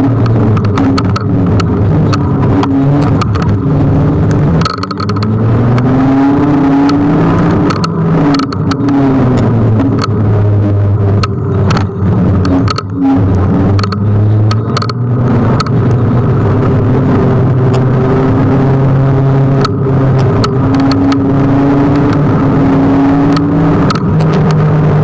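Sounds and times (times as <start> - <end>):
car engines passing: 0.0 - 25.0
electric scooter ride rumble: 0.0 - 25.0.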